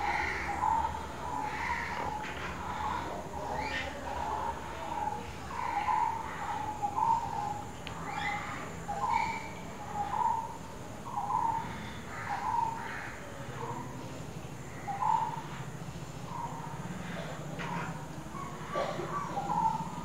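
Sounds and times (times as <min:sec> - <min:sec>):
bird calling: 0:00.0 - 0:14.0, 0:14.7 - 0:20.0.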